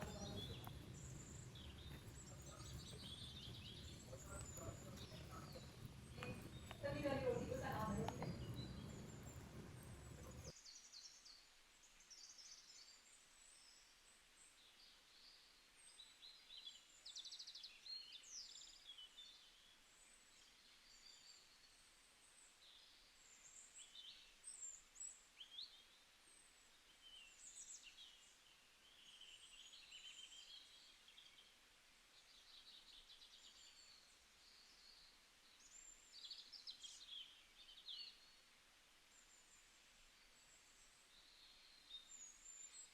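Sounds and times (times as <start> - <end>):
background hiss: 0.0 - 42.9
small birds chirping: 0.0 - 42.9.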